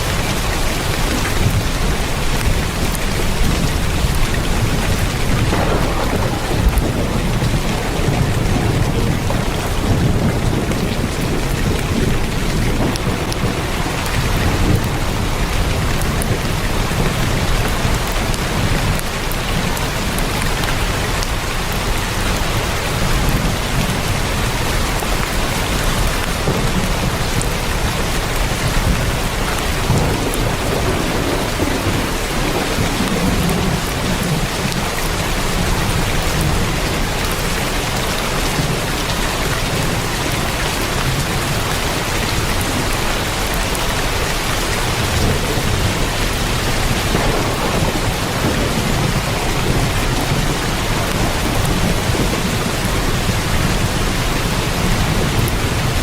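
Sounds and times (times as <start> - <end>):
heavy rain on a tin roof: 0.0 - 56.0
rolling thunder: 0.0 - 56.0.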